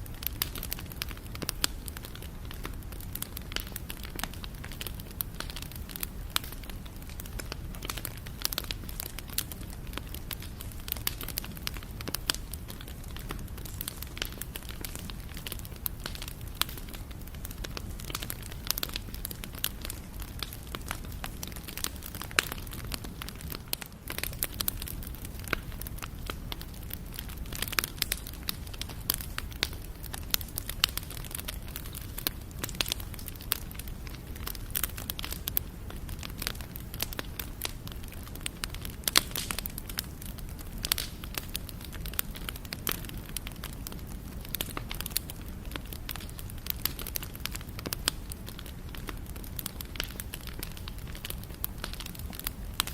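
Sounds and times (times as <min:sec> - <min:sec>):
burning wood crackling: 0:00.0 - 0:52.9
flame rumbling: 0:00.0 - 0:52.9.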